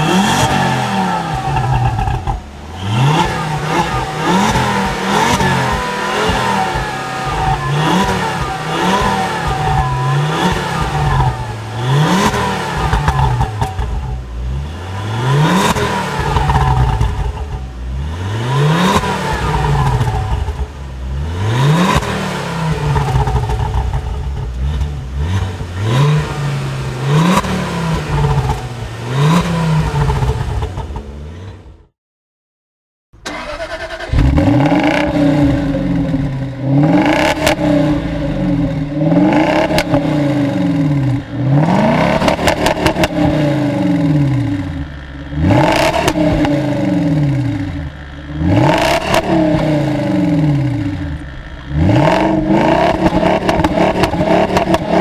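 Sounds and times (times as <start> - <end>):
car engine revving: 0.0 - 31.9, 33.2 - 55.0
car engine starting and revving: 0.0 - 31.9, 33.2 - 55.0.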